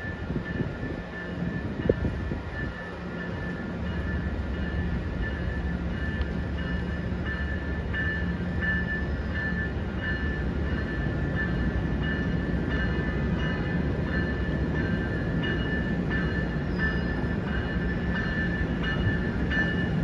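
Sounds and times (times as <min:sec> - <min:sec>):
train rumbling: 0:00.0 - 0:20.0
warning bell ringing: 0:00.0 - 0:20.0.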